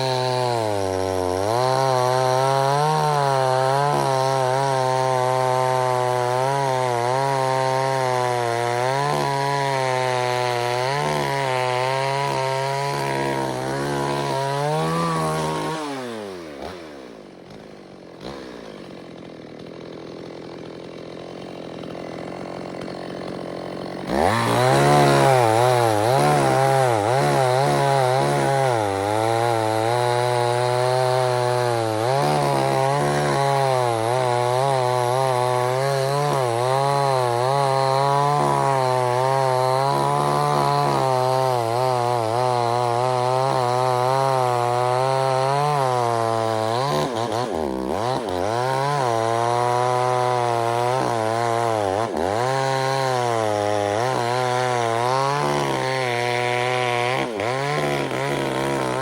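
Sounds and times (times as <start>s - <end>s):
two-stroke chainsaw running: 0.0s - 59.0s.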